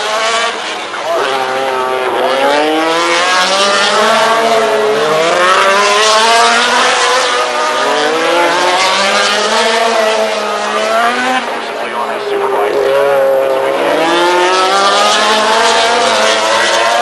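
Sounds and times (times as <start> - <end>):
racing motorcycle engines: 0.0 - 17.0.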